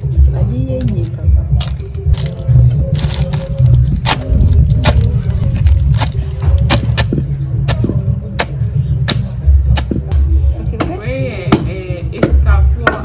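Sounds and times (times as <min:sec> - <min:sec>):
steady low rumble: 0:00.0 - 0:12.6.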